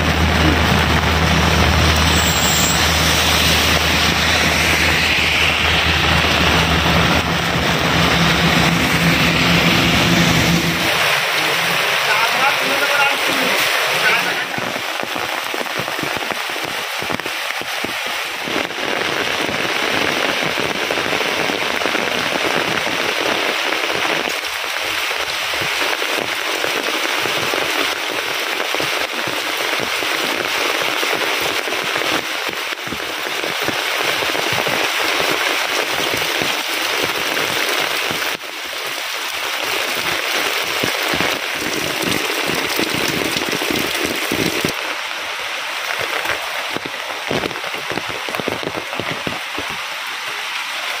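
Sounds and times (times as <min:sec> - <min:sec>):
heavy rain on leaves: 0:00.0 - 0:51.0.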